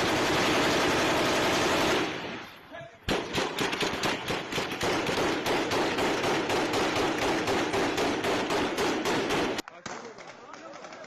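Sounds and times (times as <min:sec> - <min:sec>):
heavy automatic gunfire: 0:00.0 - 0:02.4, 0:03.1 - 0:09.6.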